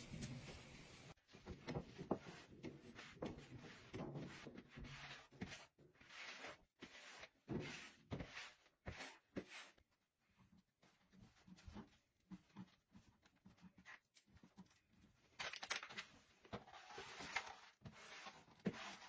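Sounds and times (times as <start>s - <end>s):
broom sweeping laminate floor: 0.1s - 13.9s, 16.5s - 19.0s.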